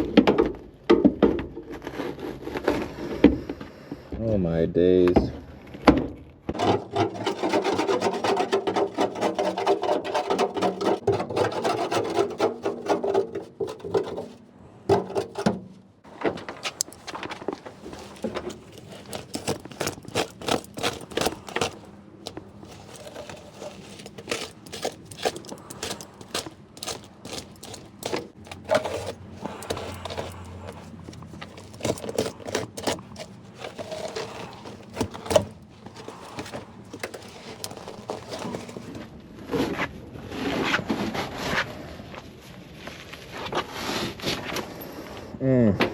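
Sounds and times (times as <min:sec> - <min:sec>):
carpet rubbing and scraping: 0:01.6 - 0:03.5, 0:06.5 - 0:44.7
rustling: 0:06.5 - 0:44.7.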